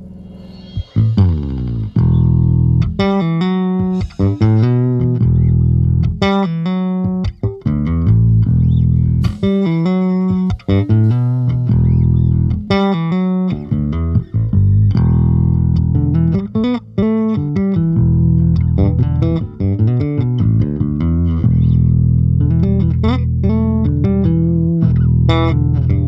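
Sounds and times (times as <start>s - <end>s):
electric bass guitar playing: 0.0s - 26.0s.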